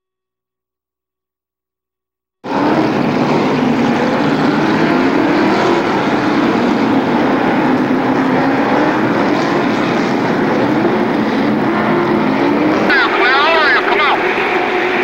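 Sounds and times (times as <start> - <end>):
race car engines passing: 2.5 - 15.0.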